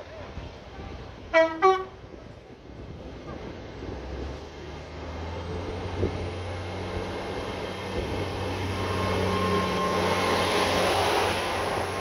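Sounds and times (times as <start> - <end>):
train engine drone: 0.0 - 12.0.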